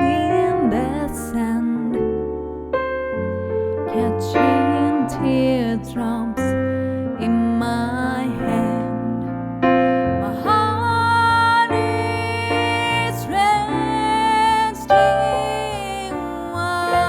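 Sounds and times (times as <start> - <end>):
woman singing: 0.0 - 2.6, 3.9 - 9.5, 10.2 - 17.0
bass: 0.0 - 17.0
electric piano chords: 0.0 - 17.0.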